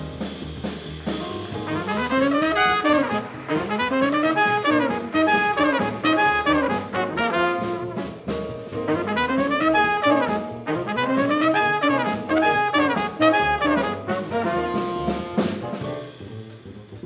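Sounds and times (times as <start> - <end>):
jazz band playing swing: 0.0 - 17.0
trumpet melody: 1.5 - 15.7.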